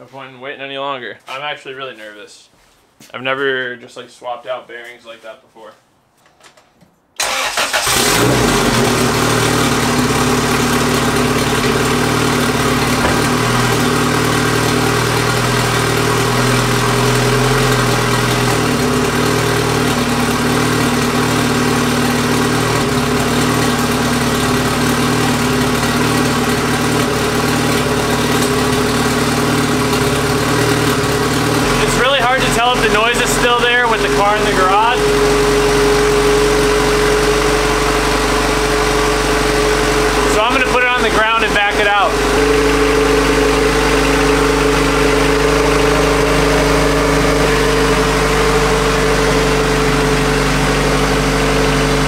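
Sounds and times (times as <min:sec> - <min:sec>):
car engine starting and idling: 0:07.2 - 0:52.0.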